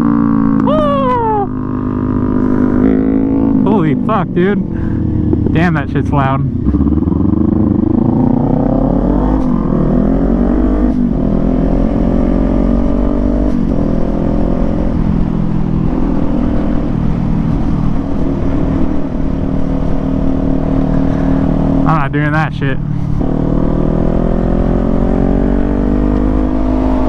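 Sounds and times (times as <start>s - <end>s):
motorcycle accelerating with upshifts: 0.0s - 27.0s.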